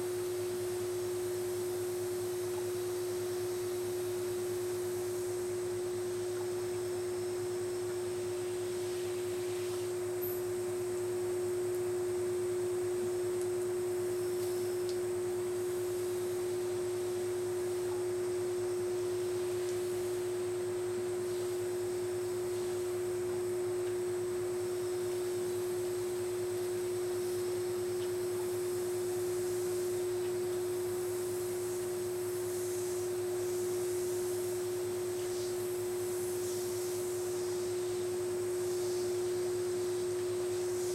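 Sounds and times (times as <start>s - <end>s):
steady single-pitched hum: 0.0s - 40.9s.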